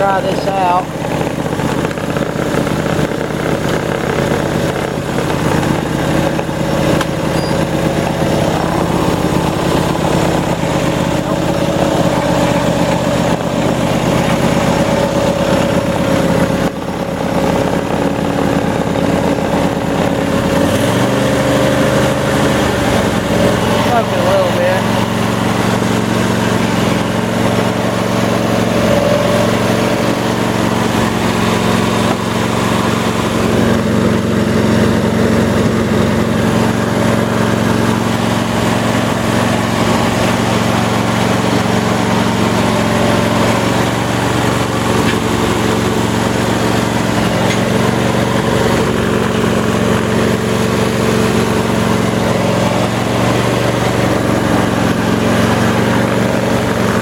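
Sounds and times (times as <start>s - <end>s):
riding mower engine running: 0.0s - 57.0s.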